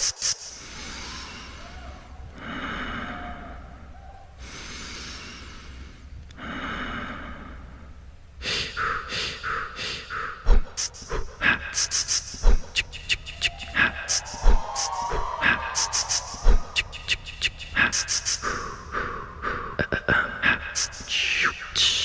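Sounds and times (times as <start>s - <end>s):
heavy amplified breathing: 0.0s - 22.0s.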